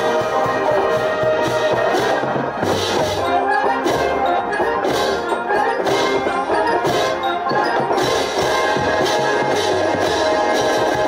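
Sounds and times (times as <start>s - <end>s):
brass chords: 0.0s - 11.0s
percussion strikes: 0.0s - 11.0s.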